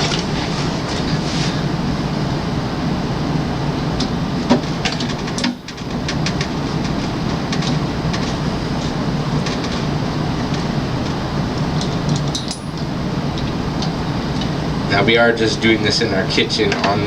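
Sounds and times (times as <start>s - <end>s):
steady rumble and hiss: 0.0s - 17.0s.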